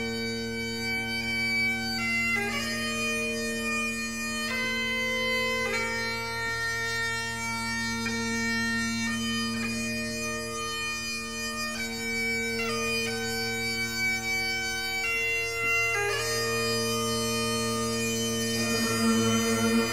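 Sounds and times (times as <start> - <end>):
bagpipe music: 0.0 - 19.9.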